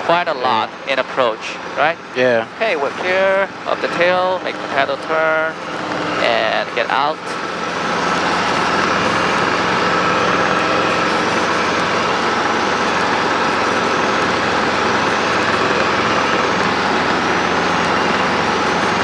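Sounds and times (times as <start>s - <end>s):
helicopter engine and rotor: 0.0s - 19.0s.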